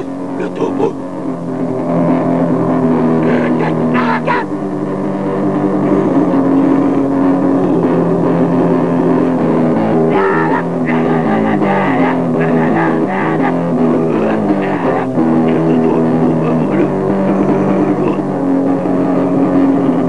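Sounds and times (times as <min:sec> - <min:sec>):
heavy guitar and bass riff: 0:00.0 - 0:20.0.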